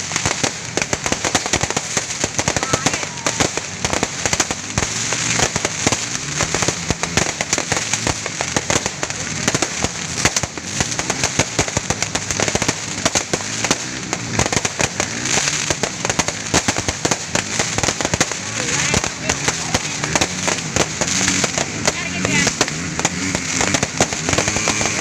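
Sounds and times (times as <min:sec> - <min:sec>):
fireworks and firecrackers popping: 0:00.0 - 0:25.0.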